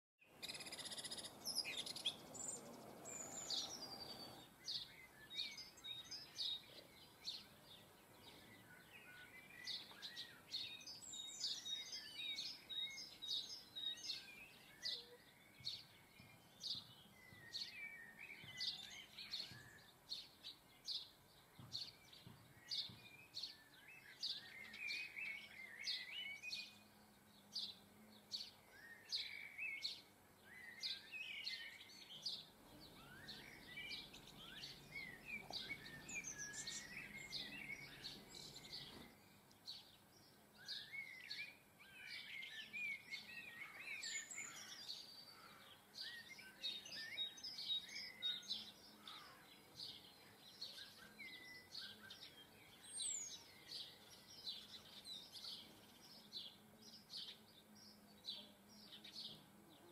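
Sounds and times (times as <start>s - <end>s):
songbirds chirping: 0.2s - 59.9s.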